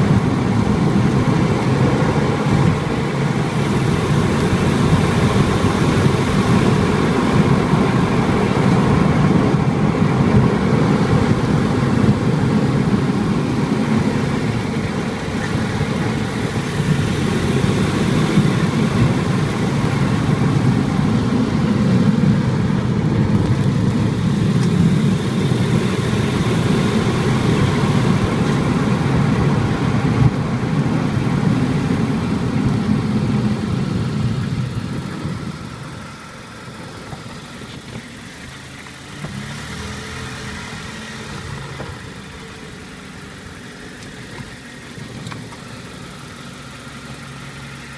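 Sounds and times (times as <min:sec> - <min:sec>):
car road and engine noise: 0:00.0 - 0:47.9.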